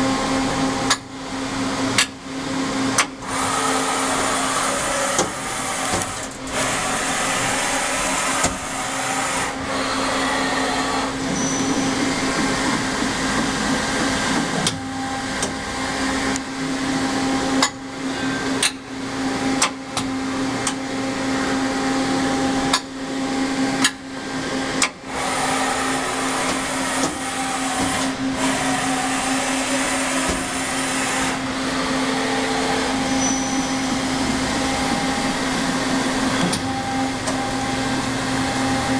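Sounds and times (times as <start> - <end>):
lathe machine hum: 0.0 - 38.9.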